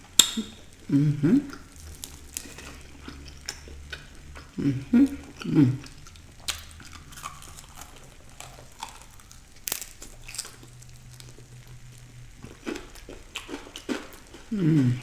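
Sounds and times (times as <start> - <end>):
chewing and crunching fried chicken: 0.0 - 15.0.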